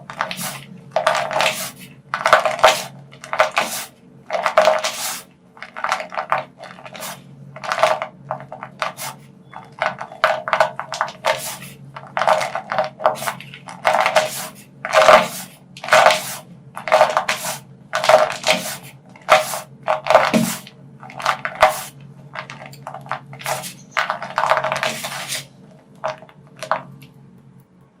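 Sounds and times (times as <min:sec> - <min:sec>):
chalk crunching by hand: 0:00.0 - 0:25.6.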